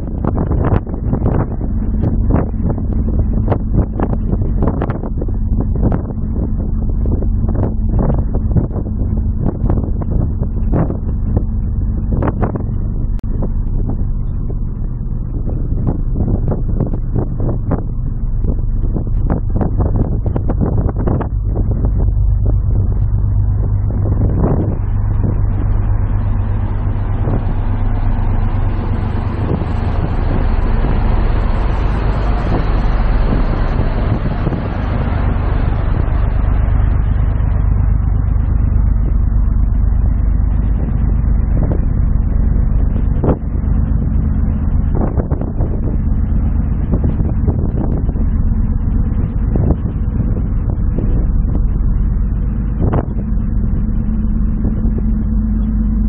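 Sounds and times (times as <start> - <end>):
ferry machinery drone: 0.0 - 56.0.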